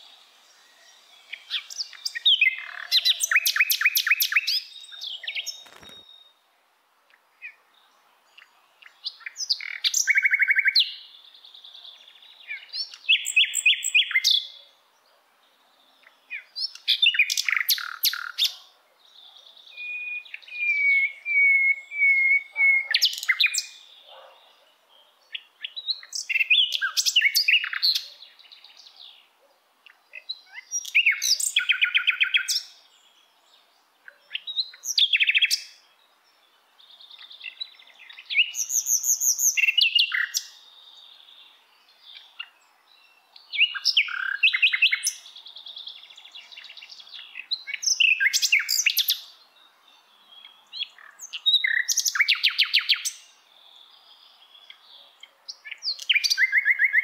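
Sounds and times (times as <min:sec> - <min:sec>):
songbird chirping and trilling: 0:00.0 - 0:06.5, 0:07.1 - 0:57.0.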